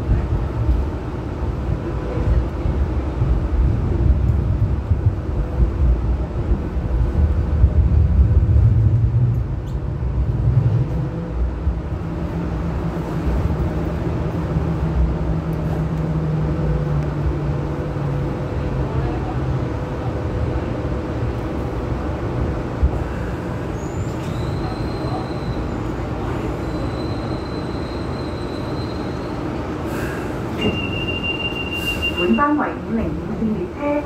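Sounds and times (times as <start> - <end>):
rail car wheels rumbling: 0.0 - 34.0.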